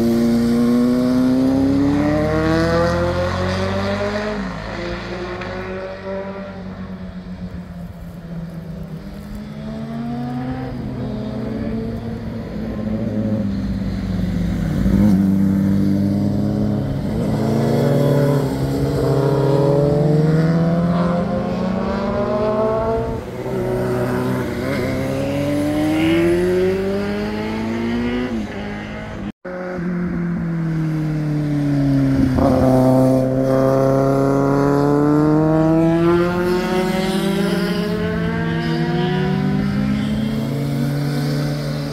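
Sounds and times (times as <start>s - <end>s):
motorcycle engines revving past: 0.0s - 41.9s.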